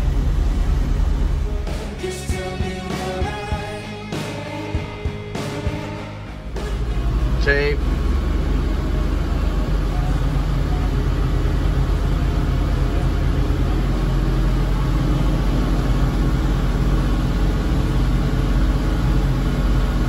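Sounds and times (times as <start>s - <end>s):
boat diesel engines droning: 0.0s - 3.0s, 6.0s - 20.0s.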